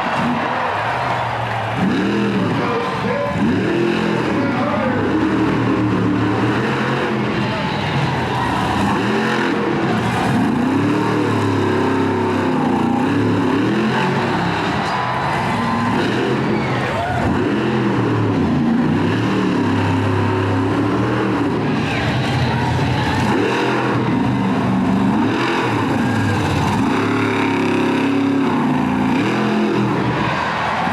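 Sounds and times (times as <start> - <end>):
monster truck engine revving: 0.0 - 30.9.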